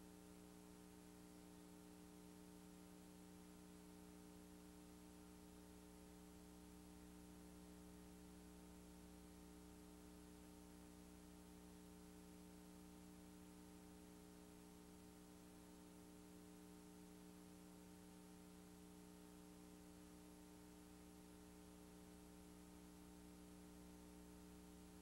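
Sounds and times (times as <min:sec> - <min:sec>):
faint electrical hum with hiss: 0:00.0 - 0:25.0.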